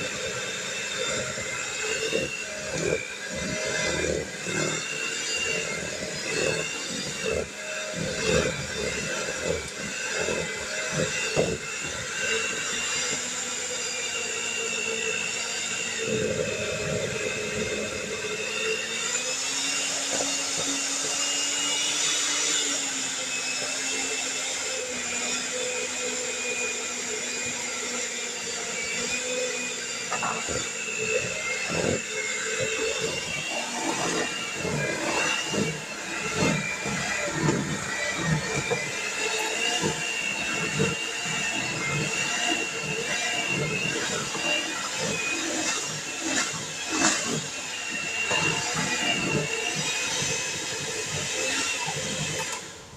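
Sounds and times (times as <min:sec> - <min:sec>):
electric mixer motor hum: 0:00.0 - 0:52.9.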